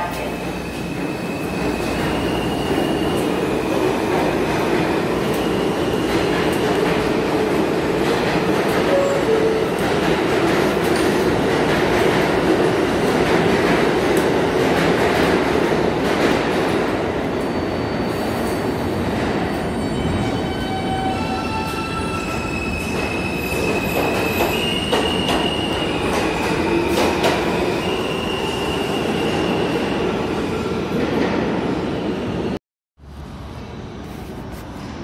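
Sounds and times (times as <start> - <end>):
train wheels rumbling on rails: 0.0 - 30.2.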